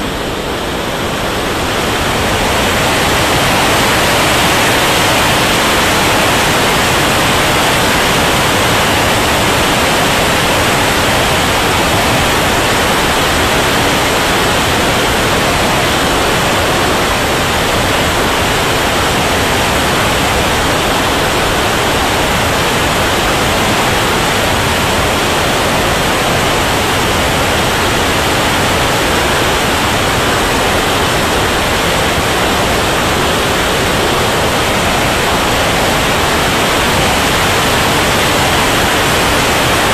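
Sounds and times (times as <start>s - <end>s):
jet turbine exhaust roar: 0.0s - 39.9s.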